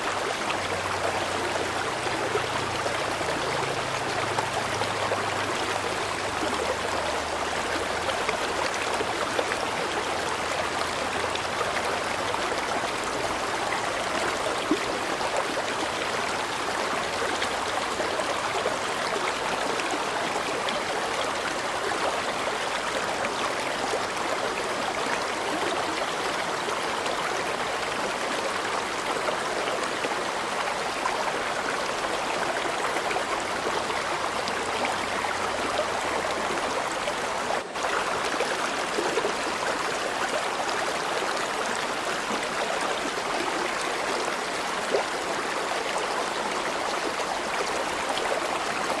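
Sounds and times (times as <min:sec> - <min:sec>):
river water babbling: 0:00.0 - 0:49.0.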